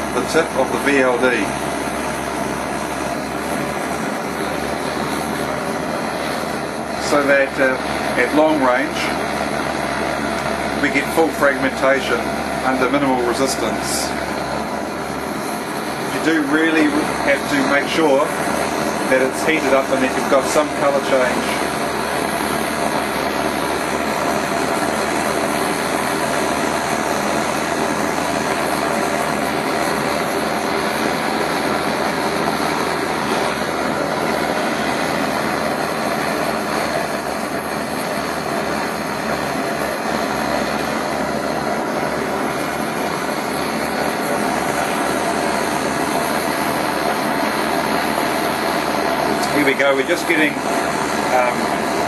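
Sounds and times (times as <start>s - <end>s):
blowtorch hissing: 0.0s - 52.0s.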